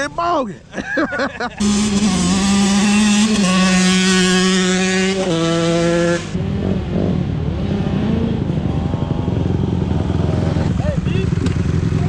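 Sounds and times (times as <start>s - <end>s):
dirt bike engine revving: 1.5s - 12.0s.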